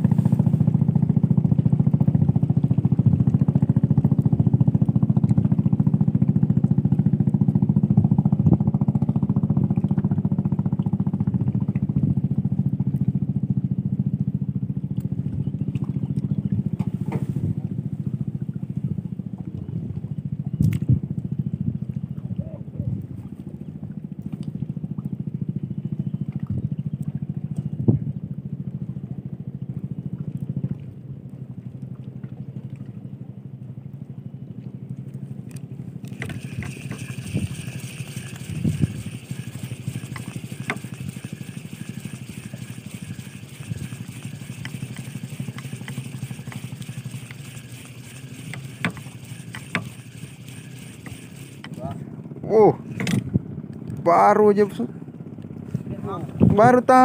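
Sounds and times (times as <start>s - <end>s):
small engine humming: 0.0s - 57.0s.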